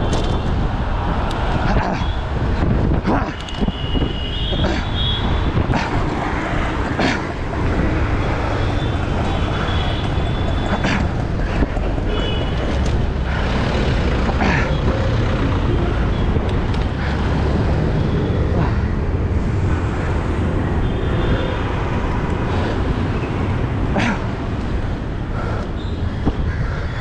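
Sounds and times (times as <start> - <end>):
vehicles passing: 0.0 - 27.0
wind rumble on microphone: 0.0 - 27.0.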